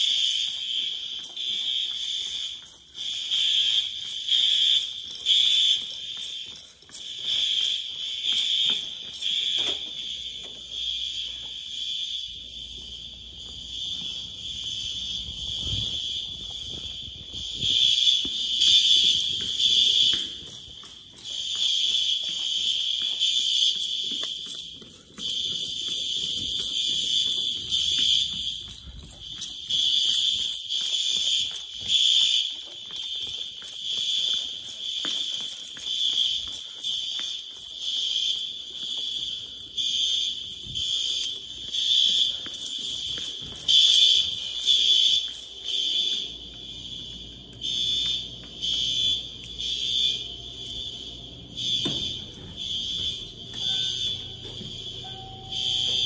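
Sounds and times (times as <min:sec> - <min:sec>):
high-pitched fire alarm horn: 0:00.0 - 0:56.0.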